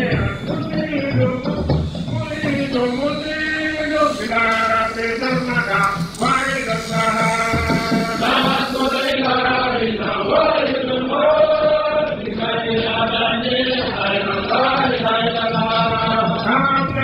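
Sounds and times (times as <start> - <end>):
voices chanting held notes: 0.0 - 17.0.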